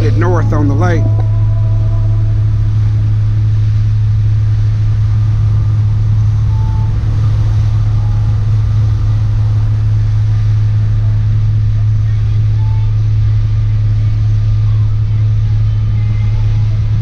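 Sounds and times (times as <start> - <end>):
motorboat engine droning: 0.0 - 17.0
wind and water noise: 0.0 - 17.0.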